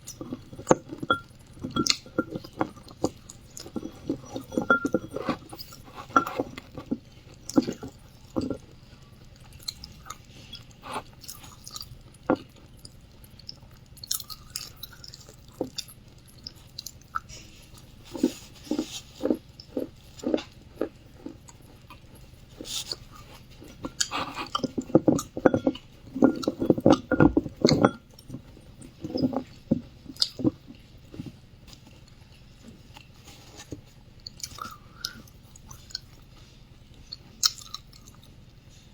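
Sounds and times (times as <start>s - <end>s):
person chewing clay: 0.0s - 38.9s.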